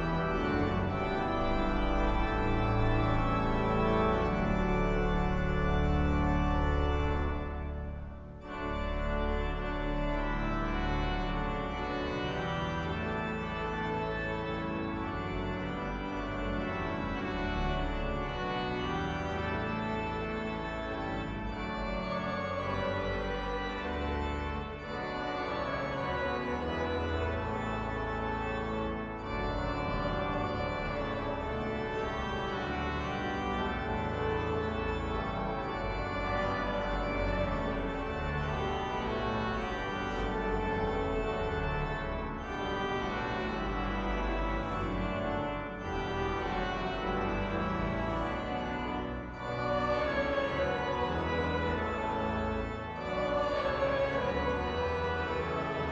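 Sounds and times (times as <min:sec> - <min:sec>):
organ playing sustained chords: 0:00.0 - 0:55.9.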